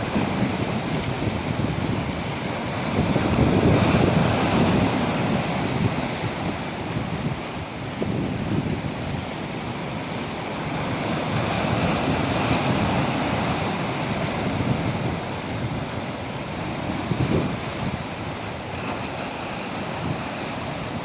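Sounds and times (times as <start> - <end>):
ocean waves washing on shore: 0.0 - 21.0
wind noise on microphone: 0.0 - 21.0.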